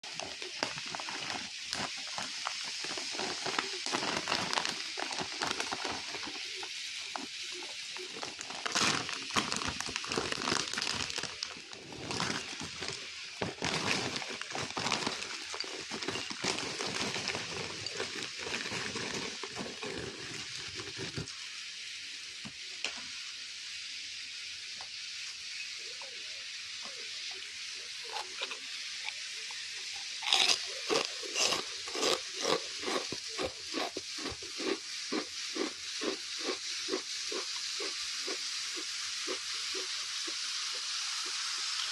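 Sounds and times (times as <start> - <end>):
crunching peanut snacks: 0.0 - 21.3, 28.0 - 41.9
snack bag crinkling: 0.0 - 21.3, 28.1 - 29.2, 29.9 - 41.9.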